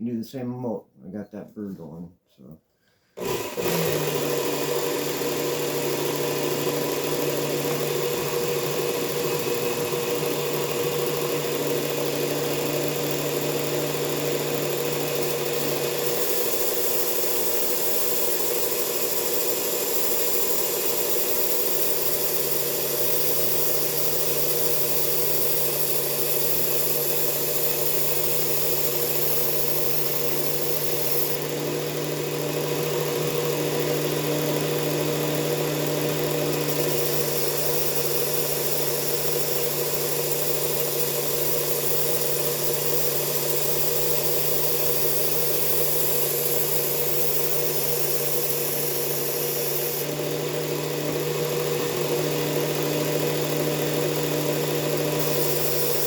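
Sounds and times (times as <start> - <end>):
belt sander grinding blade: 3.2 - 56.0.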